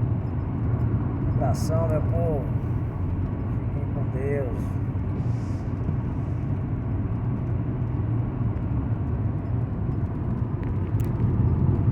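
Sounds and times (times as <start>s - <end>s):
truck engine and road rumble: 0.0s - 11.9s.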